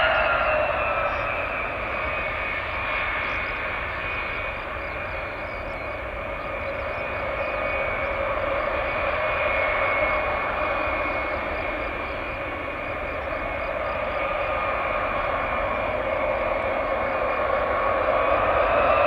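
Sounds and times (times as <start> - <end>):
jet engines whining and roaring: 0.0 - 19.0.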